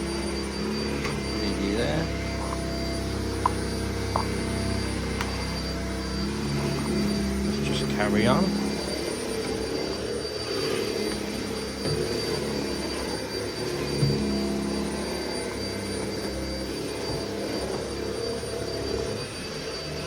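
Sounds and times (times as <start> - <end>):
vacuum cleaner whine: 0.0 - 20.0.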